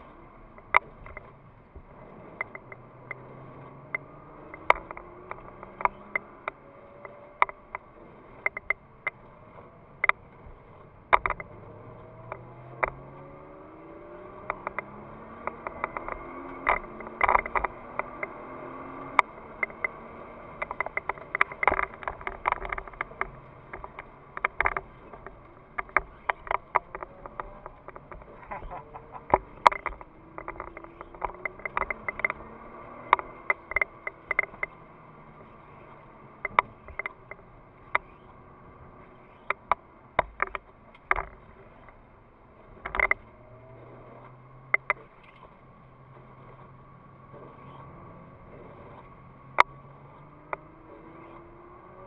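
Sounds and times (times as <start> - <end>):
car engine pulling hard: 0.0 - 52.0
sharp clicks and taps: 0.5 - 42.0, 42.6 - 46.6.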